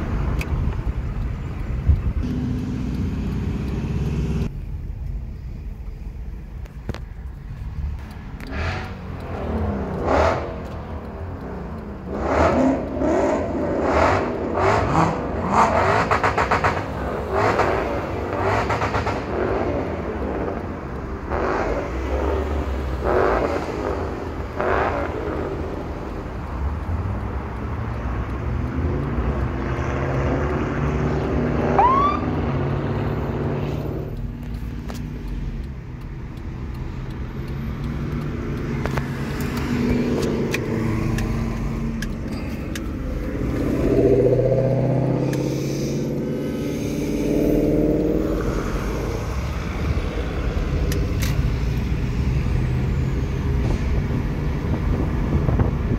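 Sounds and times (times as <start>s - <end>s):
car engine revving: 0.0s - 4.5s, 7.6s - 55.9s.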